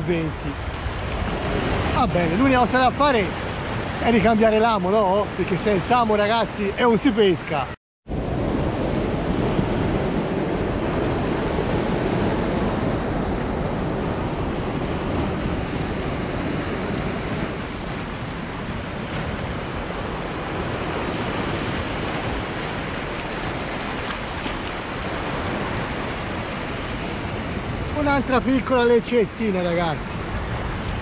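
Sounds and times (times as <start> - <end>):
wind noise on microphone: 0.0 - 6.3, 8.1 - 29.3, 29.9 - 31.0
surf breaking on rocky shore: 0.0 - 31.0.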